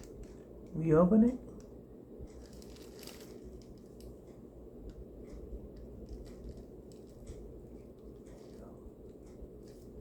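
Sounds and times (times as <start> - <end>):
faint clicks and rustling: 1.5 - 10.0.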